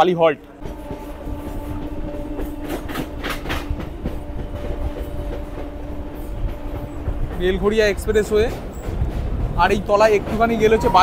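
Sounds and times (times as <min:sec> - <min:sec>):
train rumble and hum: 0:00.4 - 0:11.0
wheels clattering over rail joints: 0:00.6 - 0:11.0.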